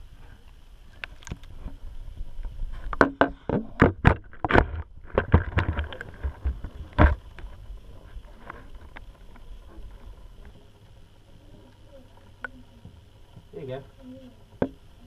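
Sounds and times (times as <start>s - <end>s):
low underwater rumble: 0.0s - 15.0s.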